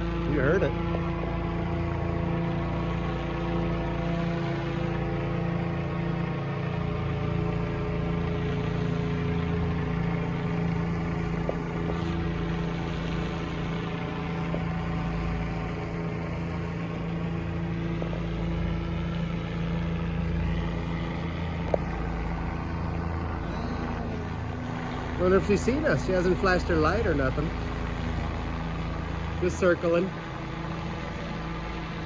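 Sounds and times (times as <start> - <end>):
helicopter rotor drone: 0.0 - 32.0.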